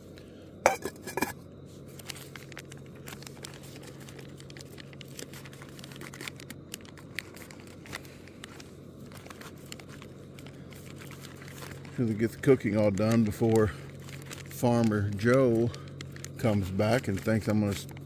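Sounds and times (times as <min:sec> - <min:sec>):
camp stove humming: 0:00.0 - 0:18.0
light crackles and crinkles: 0:00.0 - 0:18.0.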